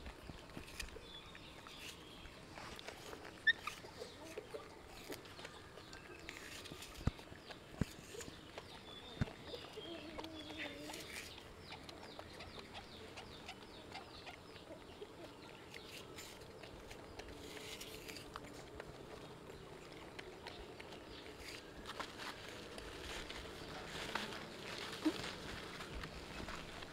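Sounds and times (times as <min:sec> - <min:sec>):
monkeys crunching and smacking: 0:00.0 - 0:26.9.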